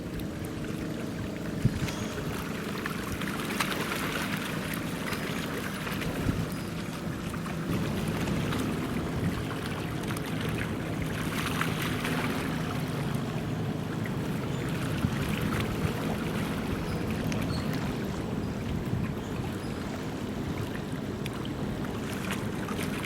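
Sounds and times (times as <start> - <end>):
ship engine drone: 0.0 - 23.0
water and wind noise: 0.0 - 23.0.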